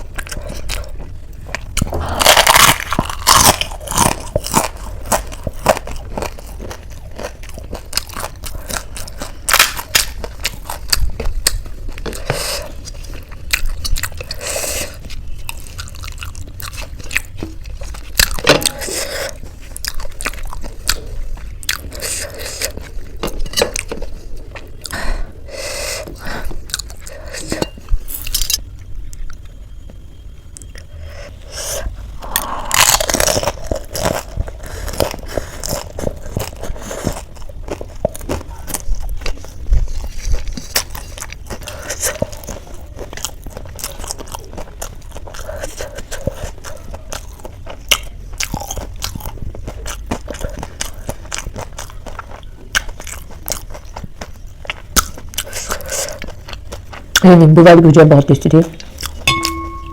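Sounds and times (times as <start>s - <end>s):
crunching and chewing snacks: 0.0s - 59.3s.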